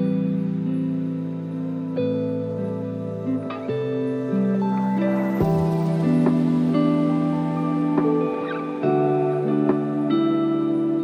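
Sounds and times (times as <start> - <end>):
lofi instrumental music: 0.0 - 11.0.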